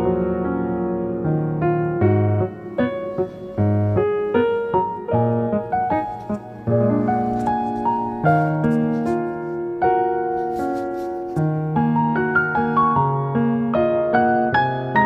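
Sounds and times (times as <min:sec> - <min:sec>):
light piano melody: 0:00.0 - 0:15.0.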